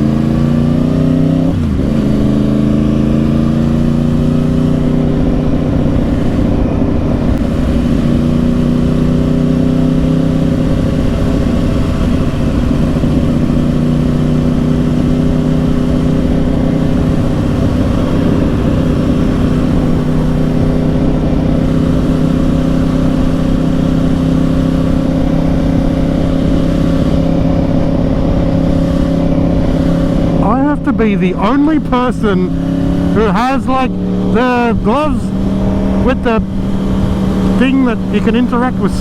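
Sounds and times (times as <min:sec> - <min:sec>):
motorcycle engine cruising: 0:00.0 - 0:39.0
wind rushing over microphone: 0:00.0 - 0:39.0.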